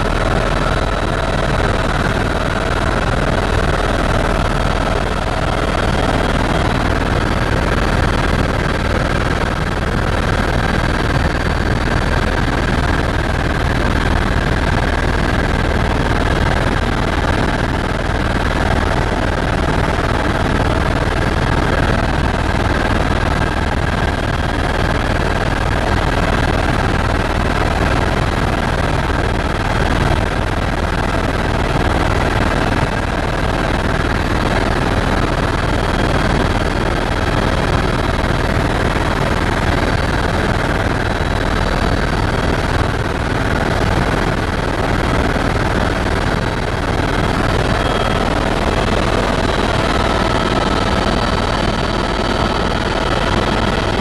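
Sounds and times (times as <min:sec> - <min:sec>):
helicopter engine and rotor rumble: 0:00.0 - 0:54.0.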